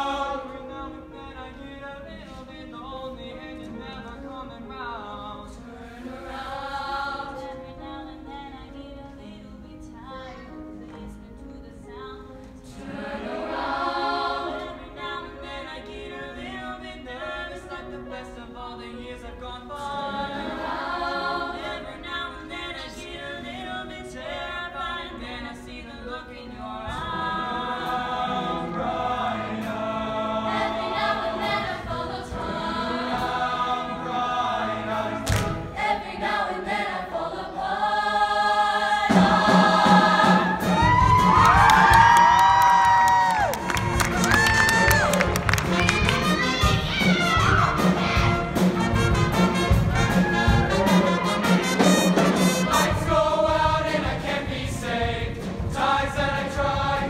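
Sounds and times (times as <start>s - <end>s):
choir singing in harmony: 0.0s - 57.0s.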